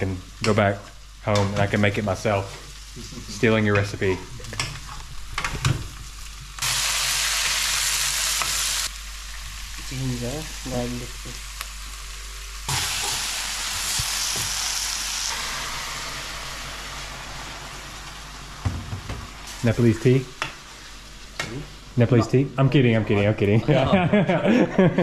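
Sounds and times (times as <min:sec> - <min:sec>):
vegetables sizzling in oil: 0:00.0 - 0:22.1.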